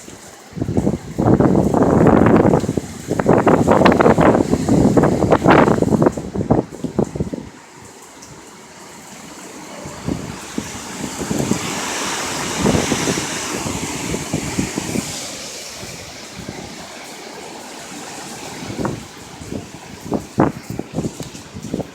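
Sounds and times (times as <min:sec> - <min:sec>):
wind buffeting microphone: 0:00.0 - 0:21.9
strong wind gust: 0:00.4 - 0:21.9.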